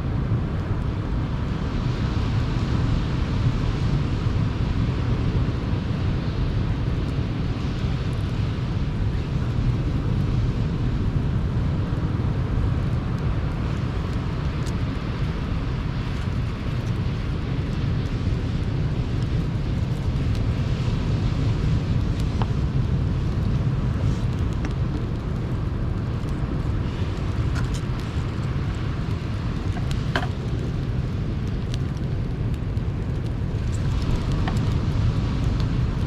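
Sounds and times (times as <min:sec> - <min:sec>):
campfire crackles: 0:00.0 - 0:36.0.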